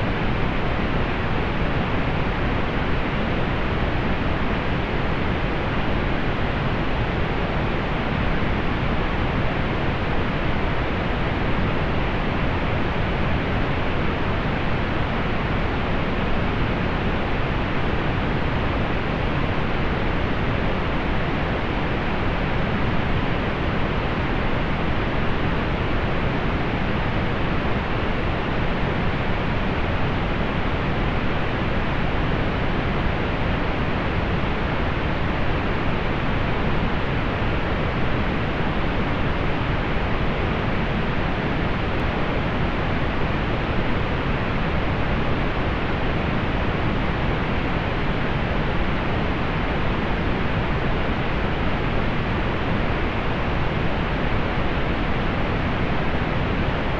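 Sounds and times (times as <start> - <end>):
pink noise hiss: 0.0 - 56.9.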